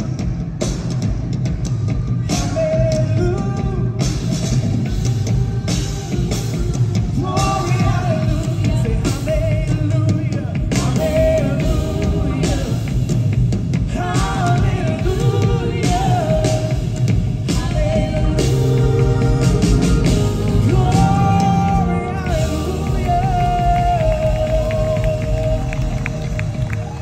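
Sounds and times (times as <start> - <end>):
live rock worship band: 0.0 - 27.0.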